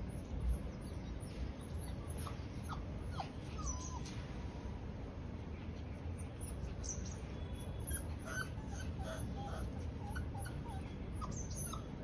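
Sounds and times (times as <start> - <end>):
puppies squeaking and yipping: 0.0 - 4.2, 6.1 - 12.0.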